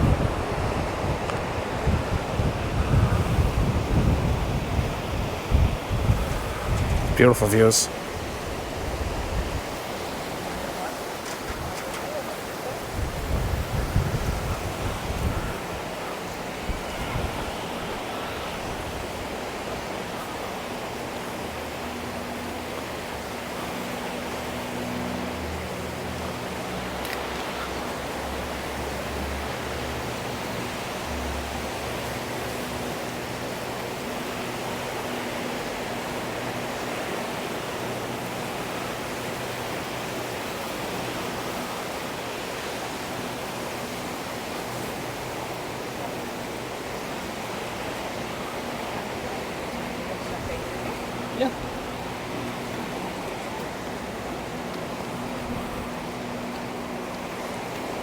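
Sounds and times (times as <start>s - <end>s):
sea surf breaking on beach: 0.0s - 58.0s.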